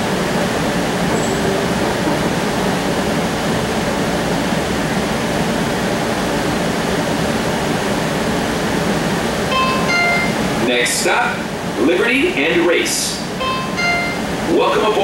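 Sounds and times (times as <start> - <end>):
streetcar cabin hiss and rumble: 0.0 - 15.0.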